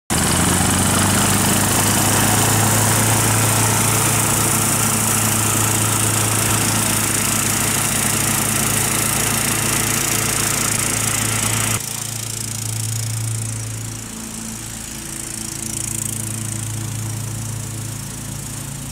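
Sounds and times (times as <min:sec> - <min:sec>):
ride-on mower engine mowing: 0:00.1 - 0:18.9.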